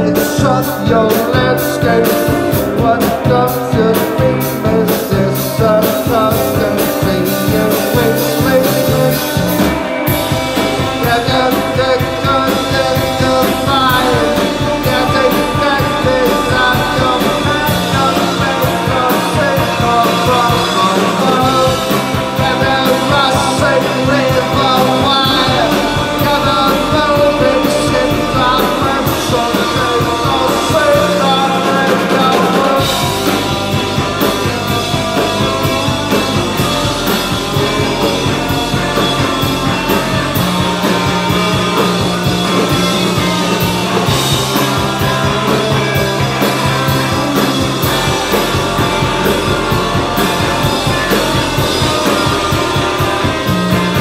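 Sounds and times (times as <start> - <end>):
person singing: 0.0 - 54.0
rock band playing live: 0.0 - 54.0
drum hits: 0.2 - 54.0.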